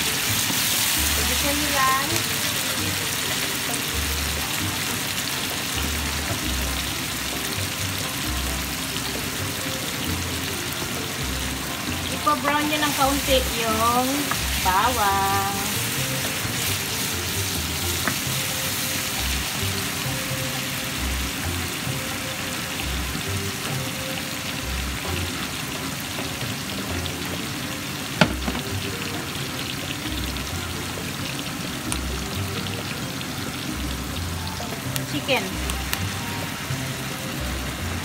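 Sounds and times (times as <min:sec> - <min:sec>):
onions sizzling in frying pan: 0:00.0 - 0:38.0.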